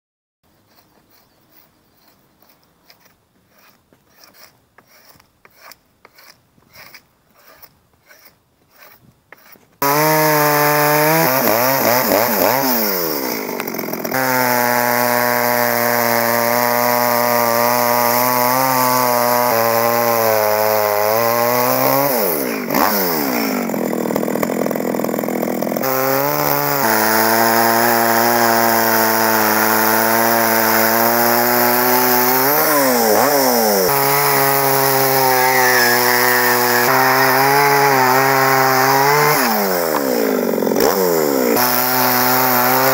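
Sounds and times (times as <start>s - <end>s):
chainsaw cutting log: 0.5s - 42.9s
hand tool scraping wood: 0.5s - 42.9s.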